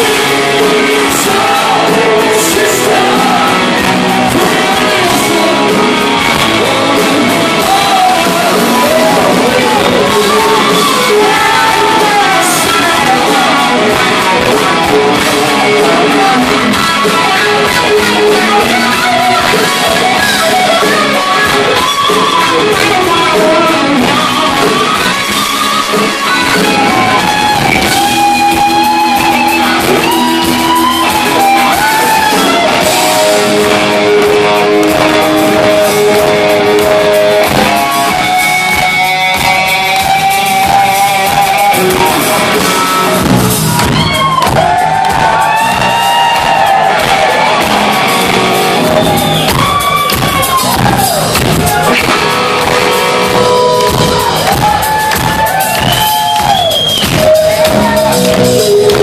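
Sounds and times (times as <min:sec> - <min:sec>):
distorted electric guitar: 0:00.0 - 0:59.0
drums: 0:00.0 - 0:59.0
person singing: 0:00.0 - 0:59.0.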